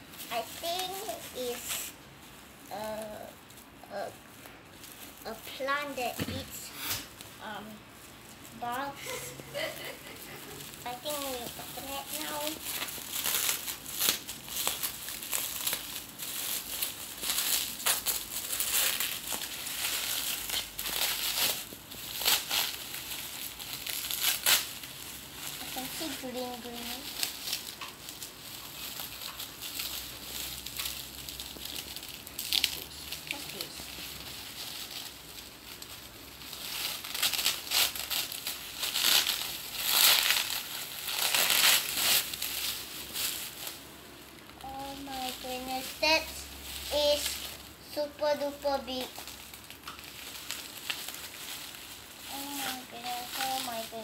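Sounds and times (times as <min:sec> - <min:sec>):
bubble wrap crinkling: 0:00.0 - 0:54.0.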